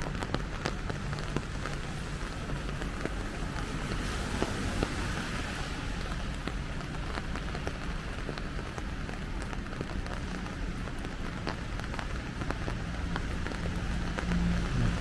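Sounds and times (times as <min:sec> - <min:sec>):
raindrops ticking close by: 0:00.0 - 0:15.0
rain hissing: 0:00.1 - 0:15.0.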